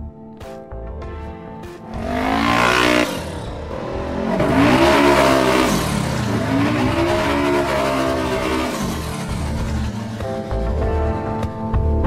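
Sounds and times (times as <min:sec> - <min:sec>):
engine revving: 0:01.8 - 0:11.9.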